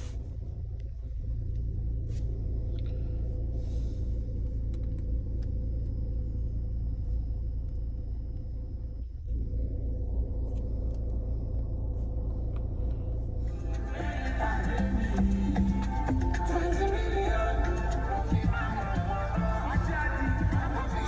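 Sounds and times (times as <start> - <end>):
car engine idling: 0.0 - 21.0
faint steady hum: 0.0 - 21.0.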